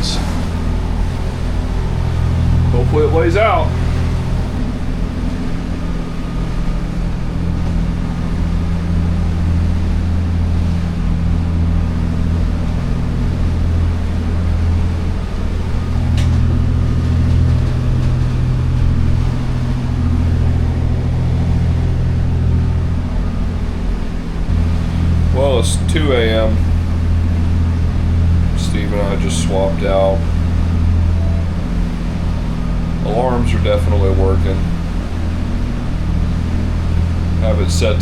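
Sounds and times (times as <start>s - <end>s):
boat diesel engines droning: 0.0s - 38.0s.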